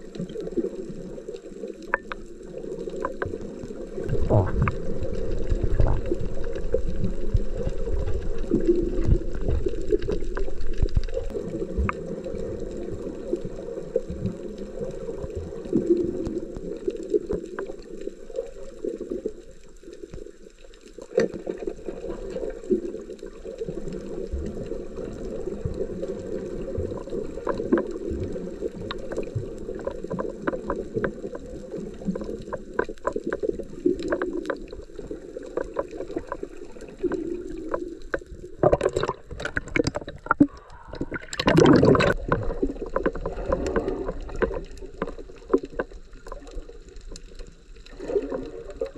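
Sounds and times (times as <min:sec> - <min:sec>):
muffled underwater water gurgling: 0:00.0 - 0:48.9.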